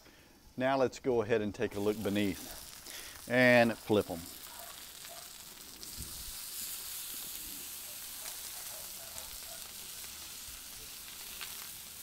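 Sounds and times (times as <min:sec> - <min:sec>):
chicken sizzling on griddle: 0:01.7 - 0:12.0.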